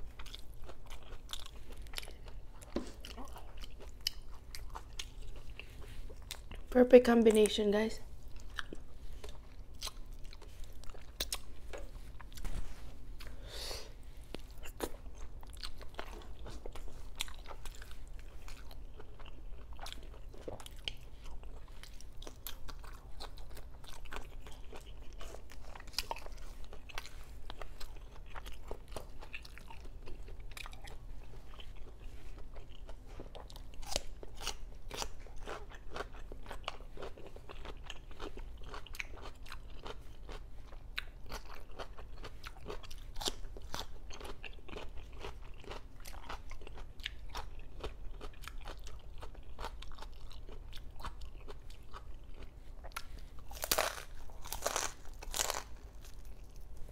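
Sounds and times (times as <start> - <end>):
crunchy chewing of food: 0.0 - 6.8, 8.0 - 56.9.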